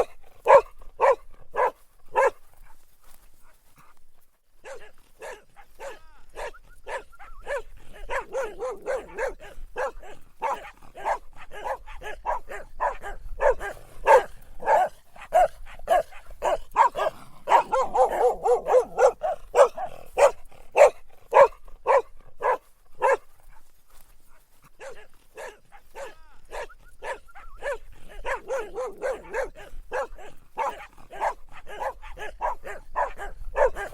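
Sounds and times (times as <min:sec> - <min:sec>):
dog barking: 0:00.0 - 0:02.8, 0:04.6 - 0:23.6, 0:24.8 - 0:33.9.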